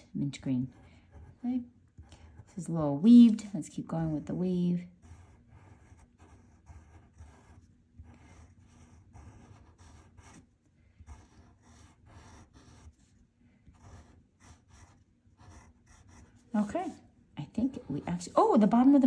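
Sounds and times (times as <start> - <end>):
pencil scratching on paper: 0.0 - 19.0.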